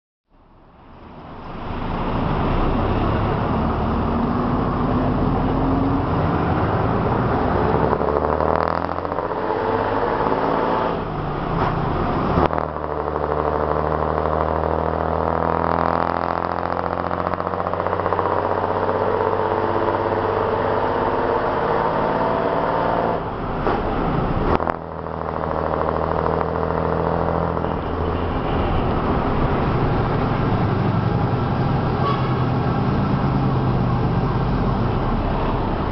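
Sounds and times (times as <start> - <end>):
bus engine pulling hard: 0.4 - 35.9.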